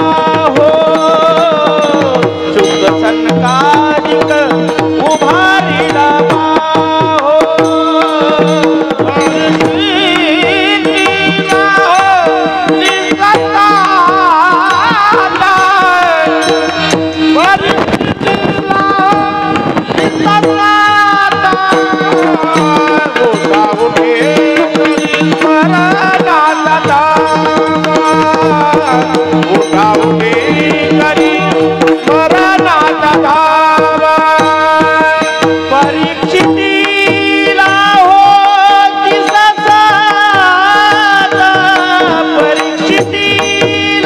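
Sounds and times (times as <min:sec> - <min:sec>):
tabla fast rhythm: 0:00.0 - 0:44.0.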